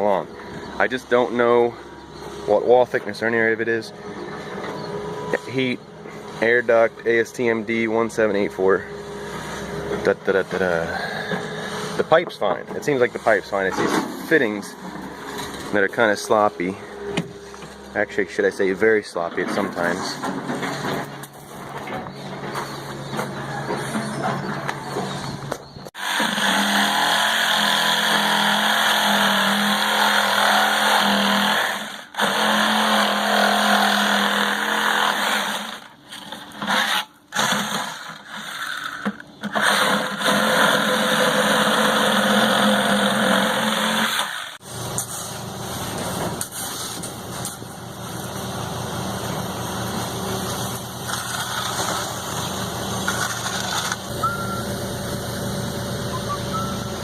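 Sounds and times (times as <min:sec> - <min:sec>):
engine running: 0:00.0 - 0:30.2, 0:38.2 - 0:57.0.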